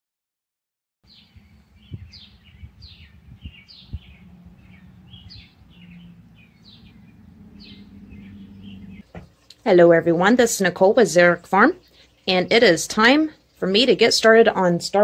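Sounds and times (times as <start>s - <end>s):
small birds chirping: 1.1s - 15.0s
low steady hum: 1.2s - 15.0s.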